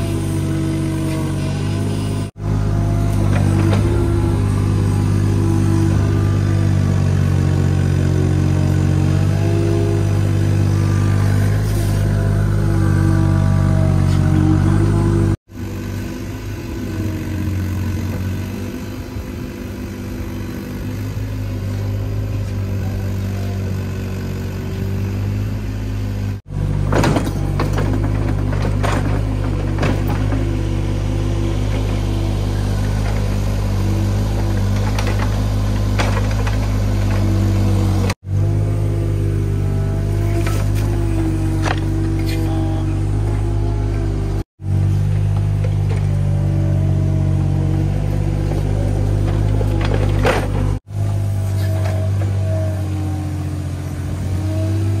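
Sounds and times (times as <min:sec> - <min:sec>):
excavator diesel engine: 0:00.0 - 0:55.0
hydraulic whine: 0:00.0 - 0:55.0.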